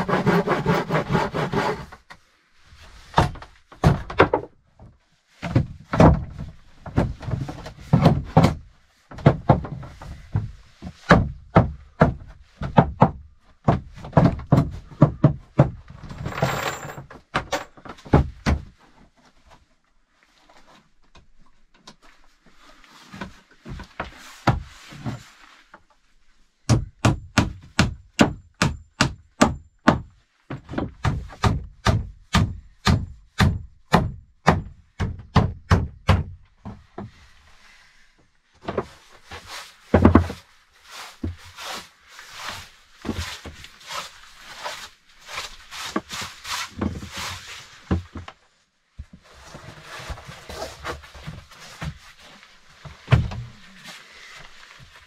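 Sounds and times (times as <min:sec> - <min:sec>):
irregular knocks and rustling: 0:02.8 - 0:19.8, 0:20.5 - 0:26.1, 0:26.7 - 0:33.2, 0:34.1 - 0:37.4, 0:38.2 - 0:55.0.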